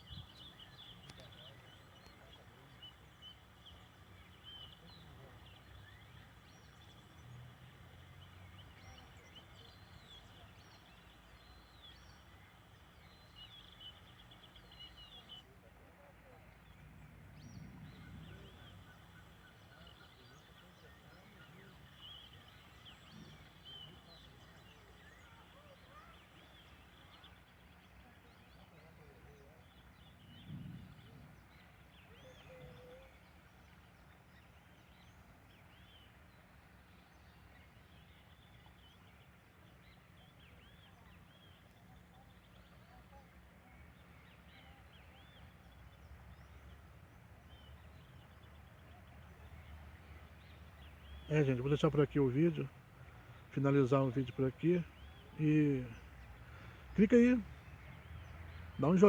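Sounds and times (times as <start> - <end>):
faint birds chirping: 0.0 - 59.0.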